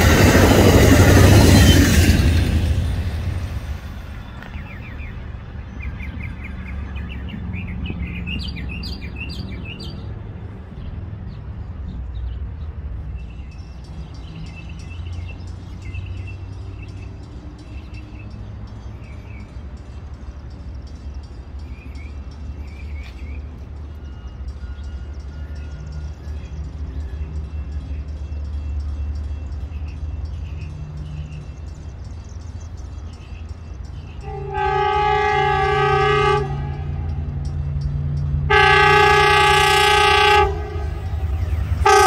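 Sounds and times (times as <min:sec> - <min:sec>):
songbirds chirping: 0:02.8 - 0:42.0.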